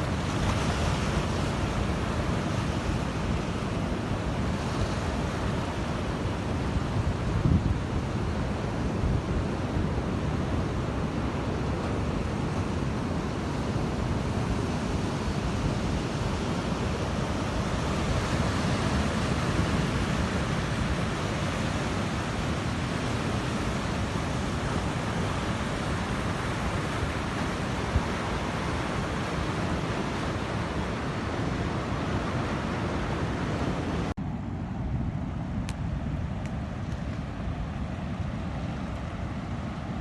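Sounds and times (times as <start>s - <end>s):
waves breaking on a beach: 0.0s - 40.0s.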